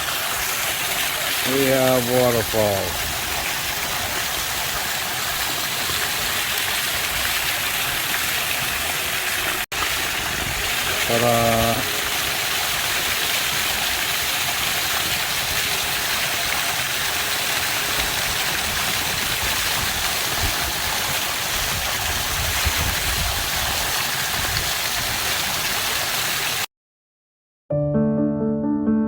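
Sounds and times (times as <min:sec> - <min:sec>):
water splashing down small waterfall: 0:00.0 - 0:26.7.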